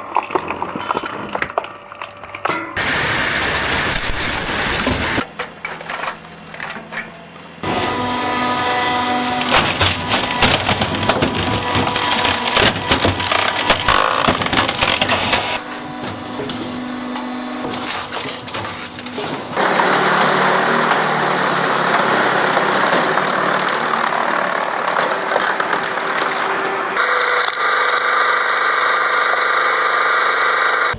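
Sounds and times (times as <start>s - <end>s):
wood cracking under a press: 0.0s - 7.1s, 9.5s - 29.8s
loud steady mechanical noise: 1.4s - 14.6s, 15.3s - 30.9s.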